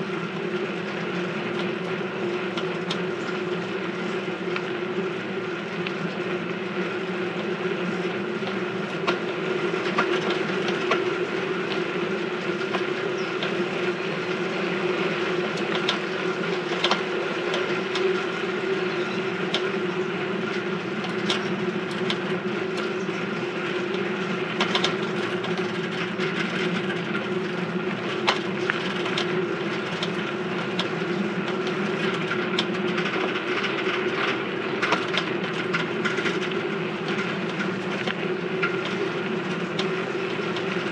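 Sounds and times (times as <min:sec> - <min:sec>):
bicycle droning hum: 0:00.0 - 0:40.9
bicycle clicks and rattles: 0:00.4 - 0:14.4, 0:15.3 - 0:40.9.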